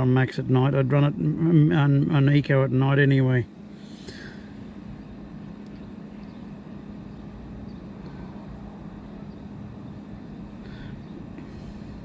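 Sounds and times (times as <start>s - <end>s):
compressor fridge humming: 0.0s - 12.0s.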